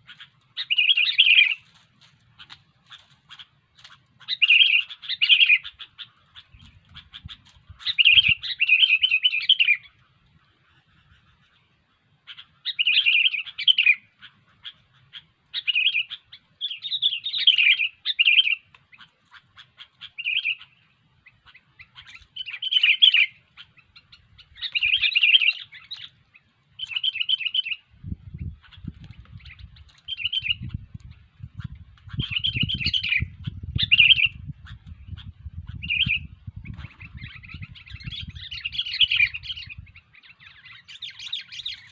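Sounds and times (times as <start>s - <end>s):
bird chattering calls: 0.0s - 1.7s, 2.4s - 41.9s.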